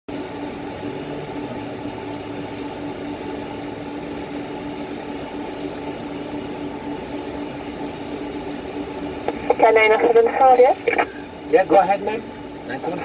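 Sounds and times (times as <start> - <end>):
constant low hum: 0.1 - 13.0
faint high whines: 0.1 - 13.0
jet engines idling: 0.1 - 13.0.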